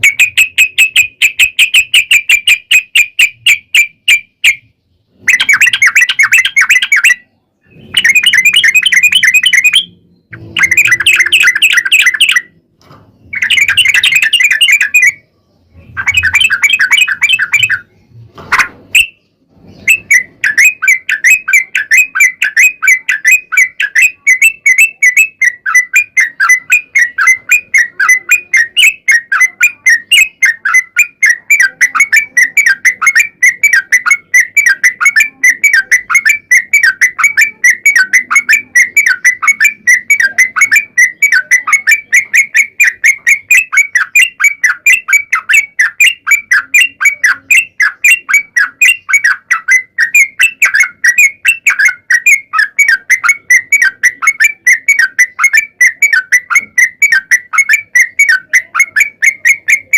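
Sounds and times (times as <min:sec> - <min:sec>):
bird singing fast repeated notes: 0:00.0 - 0:59.9.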